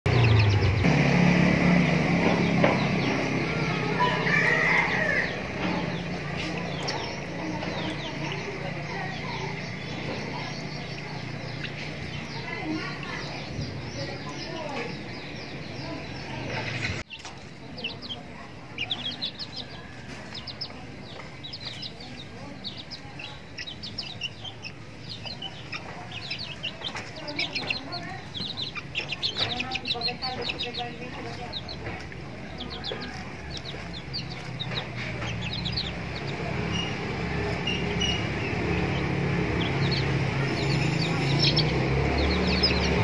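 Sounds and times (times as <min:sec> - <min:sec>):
small birds chirping: 0:00.0 - 0:43.0
chickens clucking: 0:00.1 - 0:43.0.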